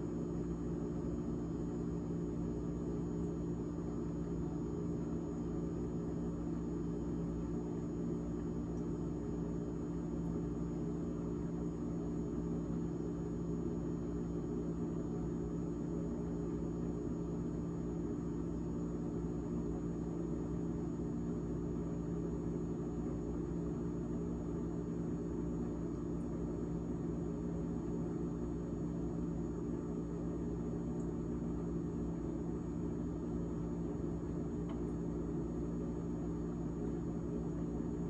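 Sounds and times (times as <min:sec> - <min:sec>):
refrigerator fan humming: 0:00.0 - 0:38.0.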